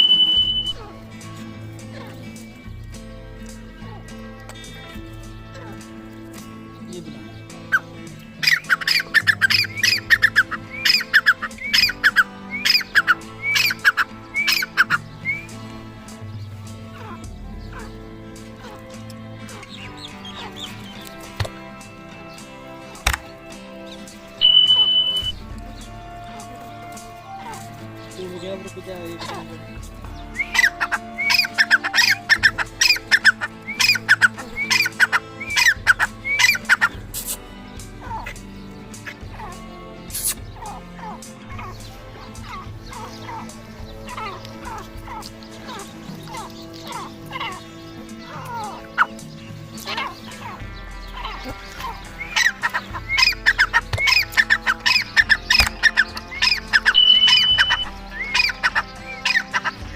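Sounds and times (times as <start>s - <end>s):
background music: 0.0s - 59.9s
partridge calling: 0.0s - 59.9s.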